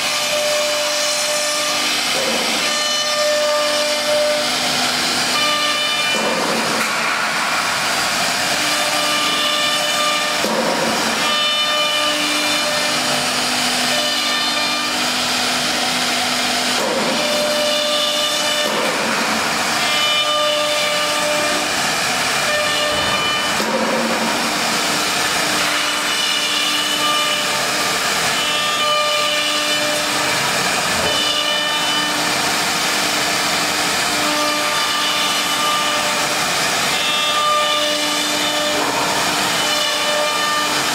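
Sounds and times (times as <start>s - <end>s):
high spindle whines: 0.0s - 40.9s
hiss of cutting and dust extraction: 0.0s - 40.9s.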